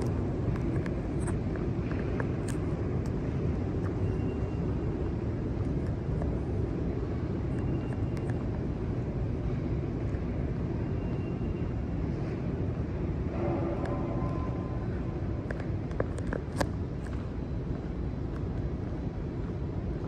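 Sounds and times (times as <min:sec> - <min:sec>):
low rumble and hiss drone: 0:00.0 - 0:20.0.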